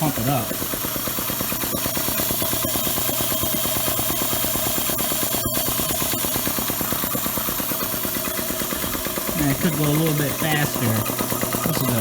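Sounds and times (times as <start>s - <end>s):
piston air compressor pulsing: 0.0s - 12.0s.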